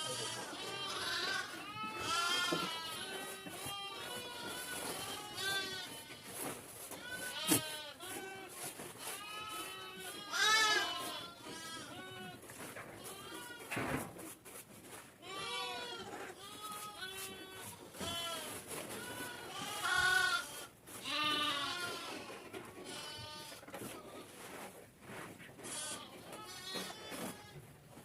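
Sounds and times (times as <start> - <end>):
sheep and goats bleating: 0.0 - 13.7, 15.2 - 23.7, 25.6 - 27.6.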